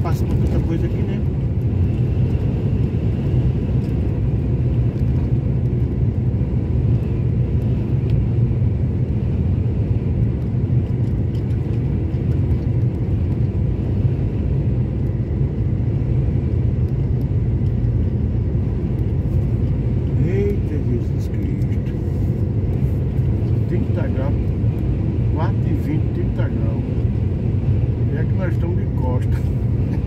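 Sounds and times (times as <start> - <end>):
vehicle engine and road rumble: 0.0 - 30.0.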